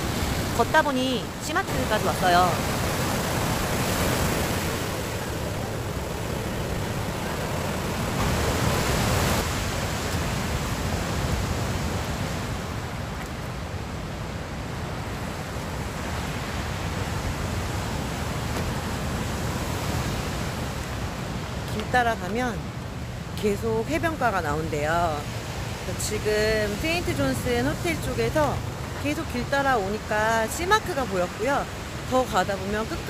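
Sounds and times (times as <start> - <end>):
sea waves breaking on beach: 0.0 - 33.0
wind: 0.0 - 33.0.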